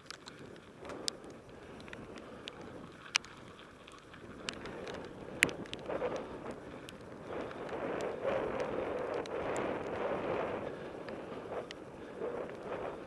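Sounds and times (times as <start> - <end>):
bike tyres rolling over gravel: 0.0 - 13.0
wind on microphone: 0.0 - 13.0.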